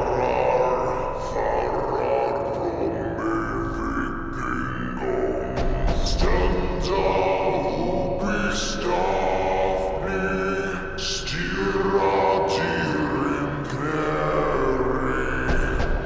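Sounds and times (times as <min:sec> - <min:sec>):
layered choir voices holding notes: 0:00.0 - 0:16.0
slowed reverb-heavy male chanting: 0:00.0 - 0:16.0.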